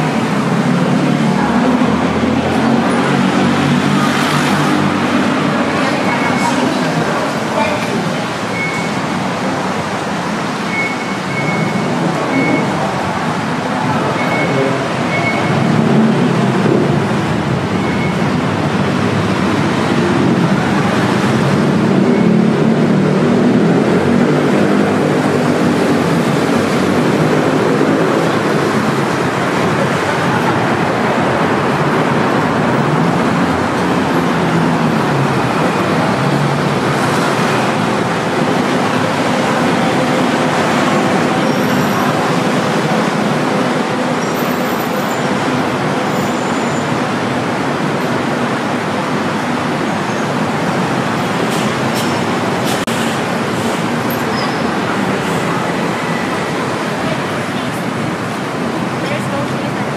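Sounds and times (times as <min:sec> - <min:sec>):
city road traffic: 0:00.0 - 0:59.9.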